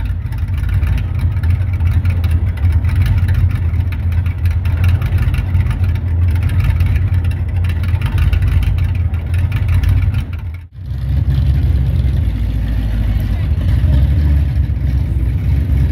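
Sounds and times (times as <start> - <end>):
pickup truck engine running: 0.0 - 15.9.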